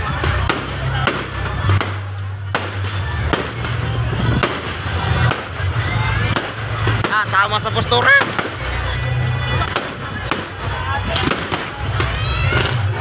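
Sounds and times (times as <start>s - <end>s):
fireworks bursting with sharp bangs: 0.0s - 13.0s
music with heavy bass: 0.0s - 13.0s.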